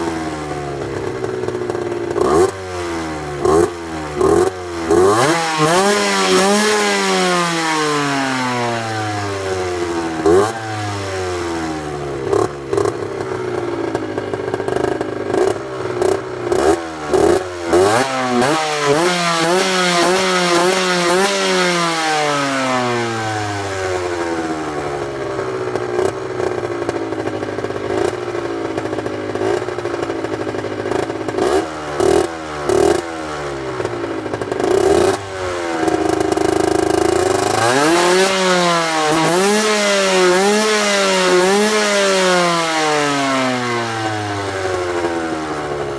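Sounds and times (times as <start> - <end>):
two-stroke engine revving: 0.0 - 45.9.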